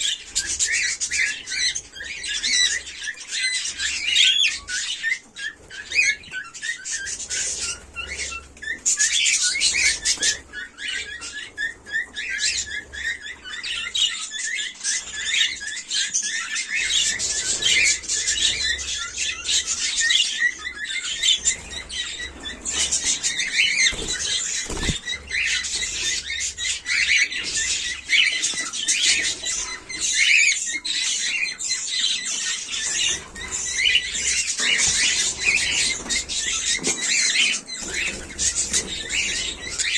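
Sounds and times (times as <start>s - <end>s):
cockatiels chirping: 0.0s - 39.9s.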